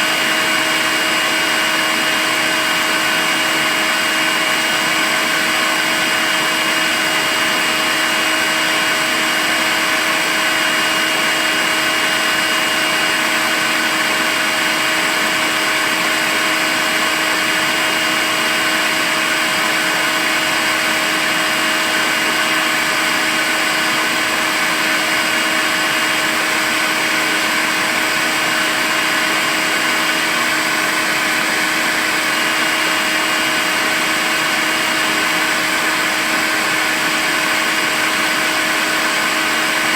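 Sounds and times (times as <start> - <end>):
cordless vacuum cleaner running: 0.0 - 39.9.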